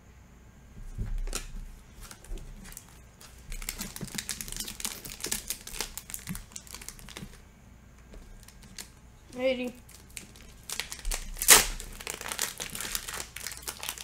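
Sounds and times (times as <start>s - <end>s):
foil wrapper crinkling: 0.8s - 7.4s, 8.1s - 14.0s.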